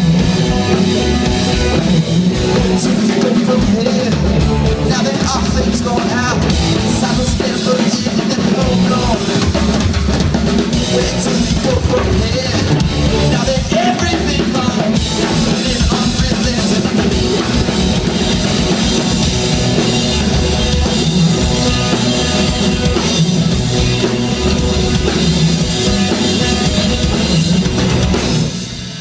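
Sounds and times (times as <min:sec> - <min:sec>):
drum kit: 0:00.0 - 0:29.0
rock band playing loudly: 0:00.0 - 0:29.0.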